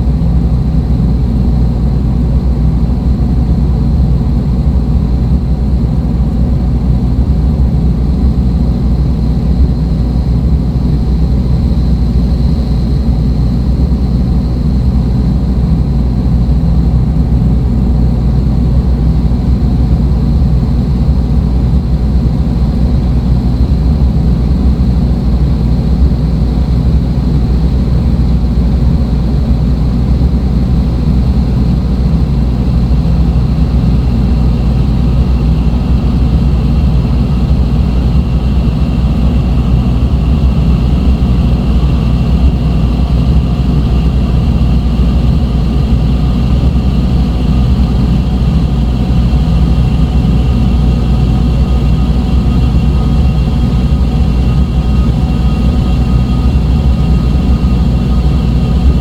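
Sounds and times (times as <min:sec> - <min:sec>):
dark ambient drone music: 0:04.1 - 0:59.0.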